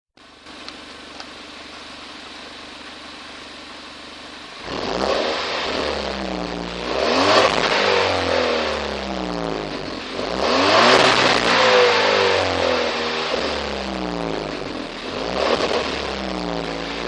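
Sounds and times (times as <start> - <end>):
car engine idling and revving: 0.2 - 17.0.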